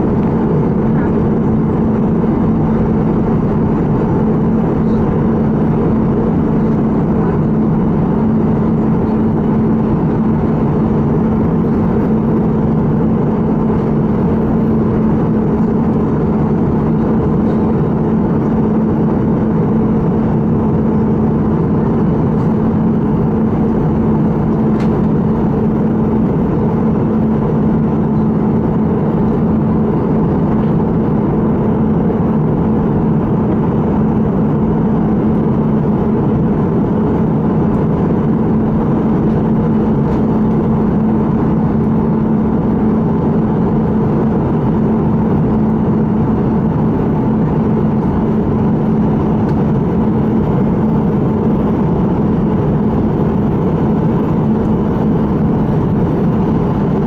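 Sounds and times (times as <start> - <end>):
jet engine cabin drone: 0.0 - 57.0
steady low hum: 0.0 - 57.0.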